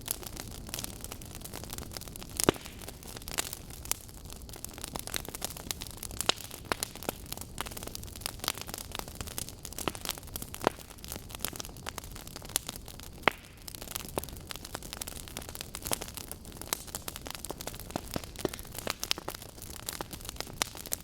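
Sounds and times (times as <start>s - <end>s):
burning logs crackling: 0.0s - 21.0s.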